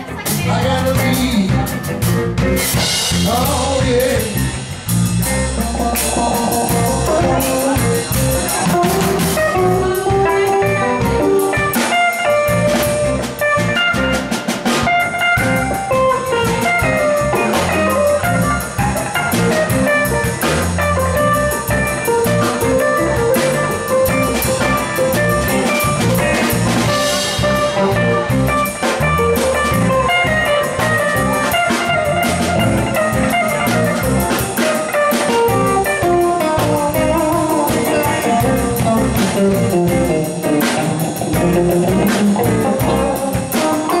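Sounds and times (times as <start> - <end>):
bass guitar: 0.0 - 44.0
drum kit: 0.0 - 44.0
electric guitars: 0.0 - 44.0.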